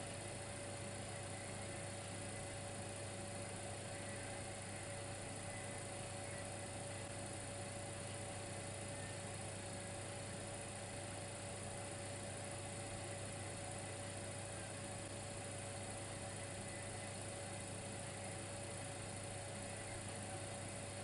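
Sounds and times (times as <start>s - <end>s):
electric heater hum: 0.0s - 21.0s
thin constant whine: 0.0s - 21.0s.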